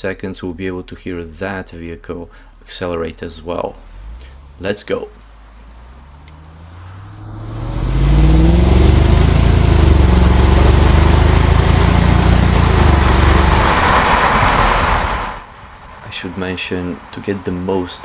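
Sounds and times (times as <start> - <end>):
car engine accelerating: 3.4 - 18.0
wind and road noise: 3.4 - 18.0.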